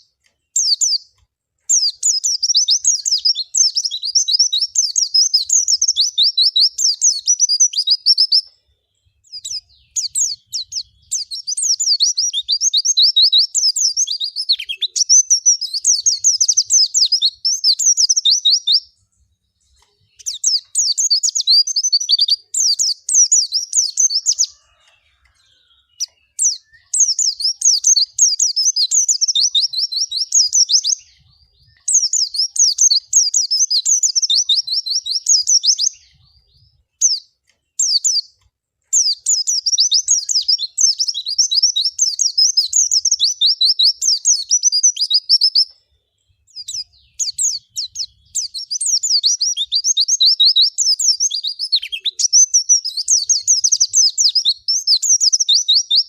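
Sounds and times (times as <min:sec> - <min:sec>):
bird chirping rapidly: 0:00.0 - 0:45.7, 0:46.4 - 0:56.0.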